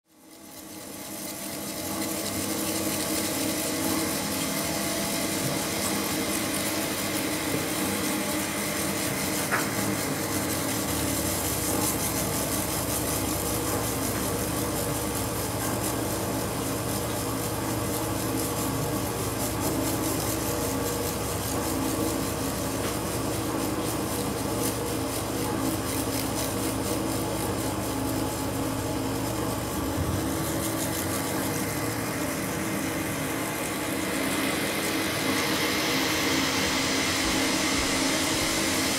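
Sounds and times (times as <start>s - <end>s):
hissing rubbing texture: 1.2s - 38.9s.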